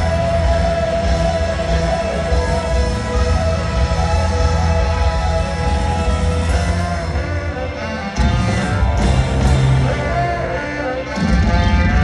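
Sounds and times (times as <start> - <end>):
electric guitar: 0.0 - 12.0
live rock band playing: 0.0 - 12.0.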